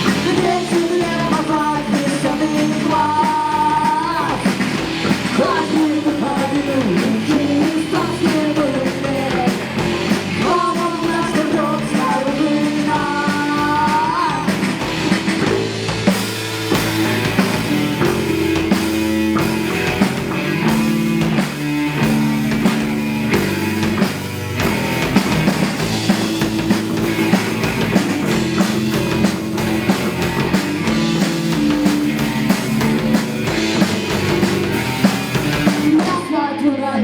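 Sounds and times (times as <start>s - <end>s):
drum kit beat: 0.0s - 36.3s
live rock band playing: 0.0s - 36.3s
electric guitars: 0.0s - 37.0s.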